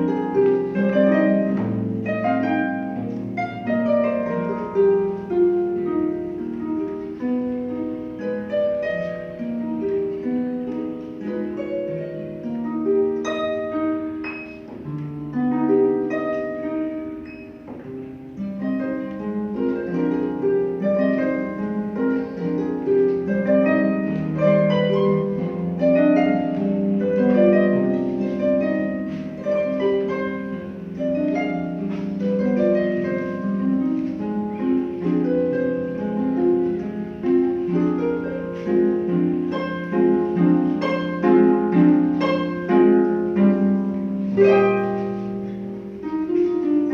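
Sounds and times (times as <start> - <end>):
harp playing: 0.0 - 46.9.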